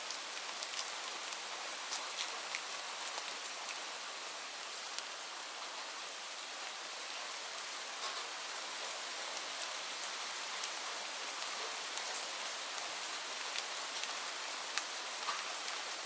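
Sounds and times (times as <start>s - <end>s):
rain pattering on leaves: 0.0s - 16.0s.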